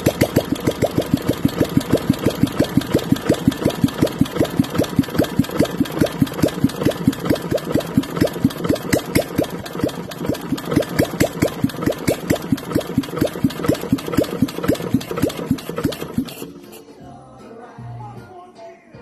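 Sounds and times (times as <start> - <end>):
engine idling: 0.0 - 16.6.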